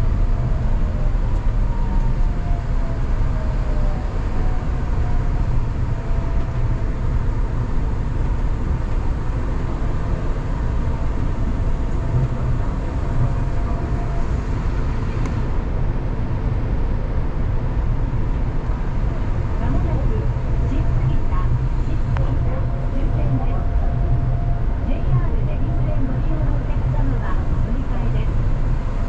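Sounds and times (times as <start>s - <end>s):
faint whine: 0.0s - 29.0s
train rumble: 0.0s - 29.0s.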